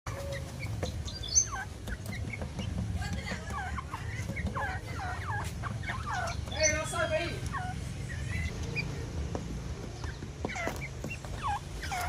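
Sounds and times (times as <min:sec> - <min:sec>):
francolins calling: 0:00.1 - 0:09.2, 0:09.8 - 0:12.0.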